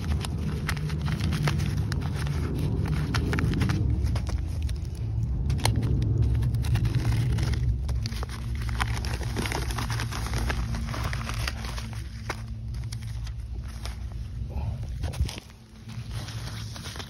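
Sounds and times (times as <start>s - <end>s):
low rumble: 0.0s - 17.0s
paper crinkling: 0.0s - 17.0s.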